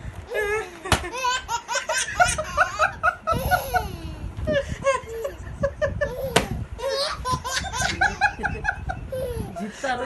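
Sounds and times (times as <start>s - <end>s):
baby giggling: 0.3s - 4.2s, 4.9s - 9.6s.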